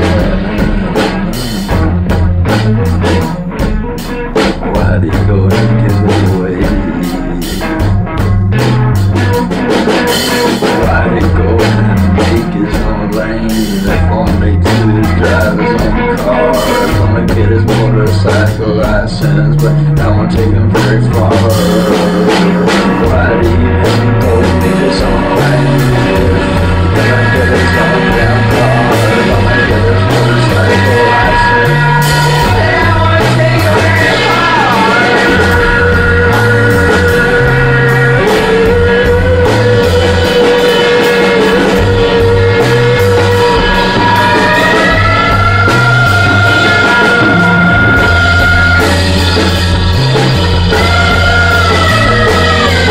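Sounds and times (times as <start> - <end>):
drums: 0.0 - 52.9
rock band playing: 0.0 - 52.9.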